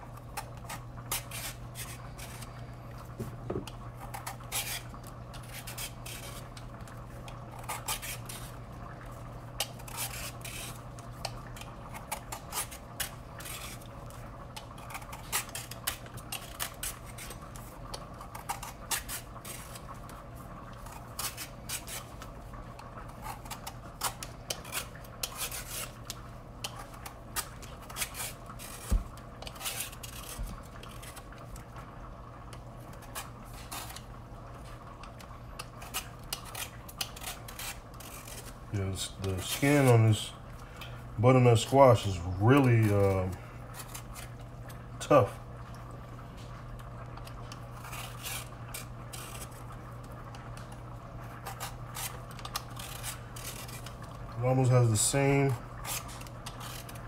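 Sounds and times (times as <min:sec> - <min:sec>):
blade scraping squash skin: 0:00.0 - 0:31.7, 0:32.8 - 0:45.4, 0:47.2 - 0:57.0.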